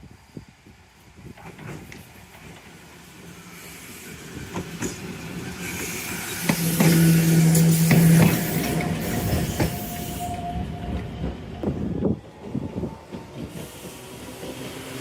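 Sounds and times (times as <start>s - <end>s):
tram wheels clicking over rail joints: 1.3s - 10.4s, 11.0s - 15.0s.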